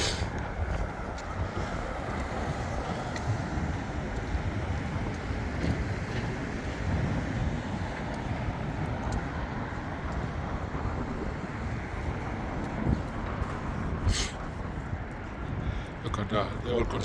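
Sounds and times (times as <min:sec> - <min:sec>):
distant traffic rumble: 0:00.0 - 0:17.0
wind buffeting microphone: 0:00.0 - 0:17.0.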